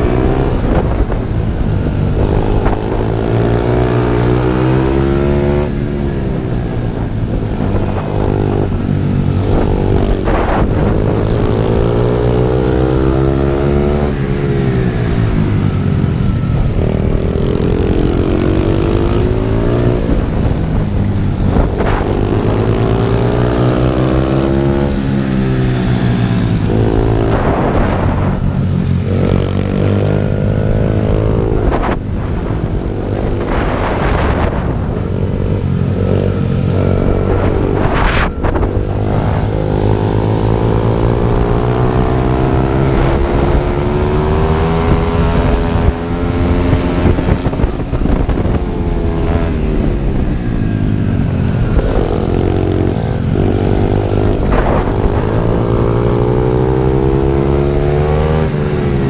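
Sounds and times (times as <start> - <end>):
small motorbike engines revving: 0.0 - 59.0.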